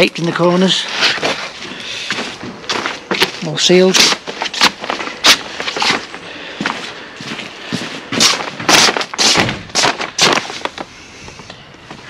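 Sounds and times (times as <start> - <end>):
footsteps on rustling plastic sheeting: 0.4 - 10.9.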